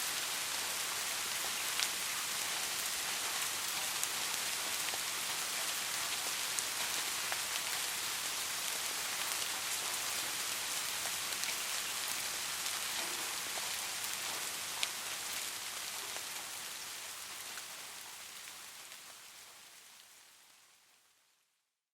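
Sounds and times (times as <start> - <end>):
steady rain falling: 0.0 - 21.6.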